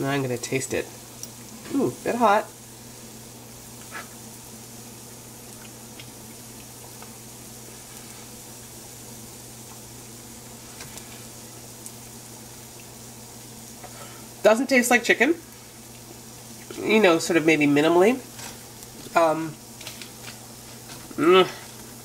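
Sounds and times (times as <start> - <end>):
food sizzling in a frying pan: 0.0 - 22.0
low steady hum: 0.0 - 22.0.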